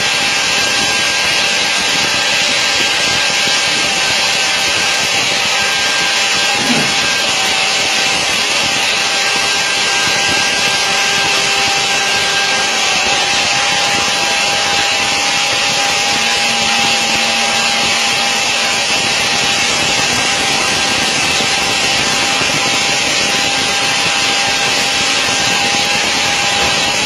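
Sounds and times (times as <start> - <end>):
aircraft rush with whine: 0.0 - 27.0.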